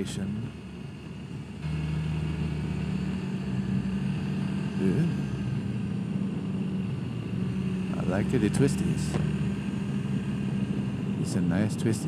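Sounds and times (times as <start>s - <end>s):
road and wind noise: 0.0s - 12.0s
scooter engine droning: 0.0s - 12.0s.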